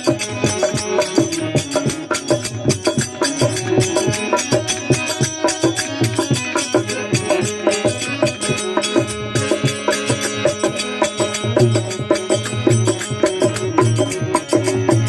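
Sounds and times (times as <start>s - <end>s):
quick percussion beat: 0.0s - 15.0s.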